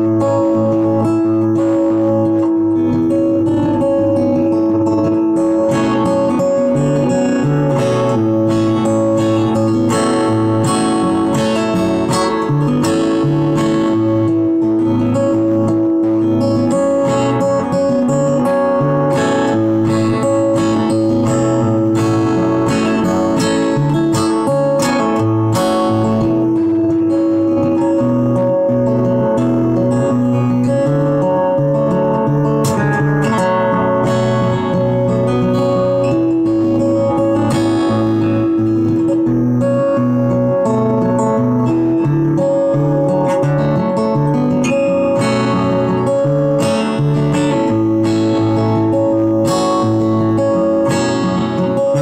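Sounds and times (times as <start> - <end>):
fingerstyle acoustic guitar: 0.0 - 52.0.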